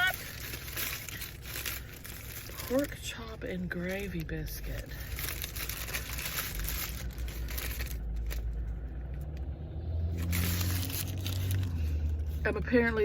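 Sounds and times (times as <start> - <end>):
paper wrapper rustling: 0.0 - 8.6, 10.1 - 13.0.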